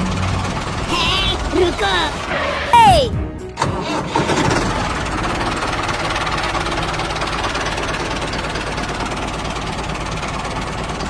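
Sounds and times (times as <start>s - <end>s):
tractor engine chugging: 0.0s - 2.5s, 3.1s - 11.0s.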